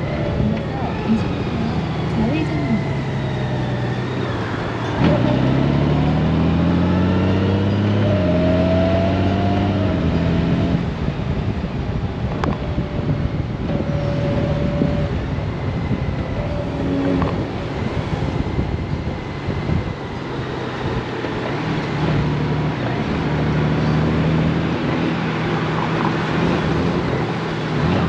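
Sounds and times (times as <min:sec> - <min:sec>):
motorcycle engine accelerating: 0:00.0 - 0:28.0
wind and road noise: 0:00.0 - 0:28.0.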